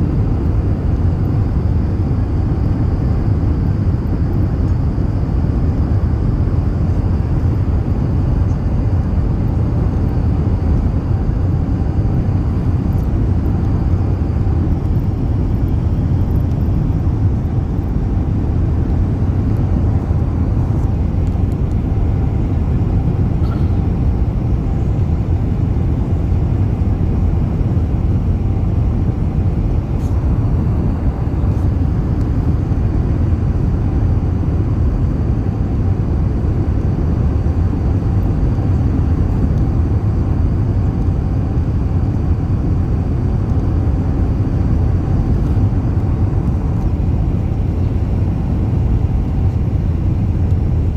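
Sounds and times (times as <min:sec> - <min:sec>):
airliner rumbling: 0:00.0 - 0:50.9.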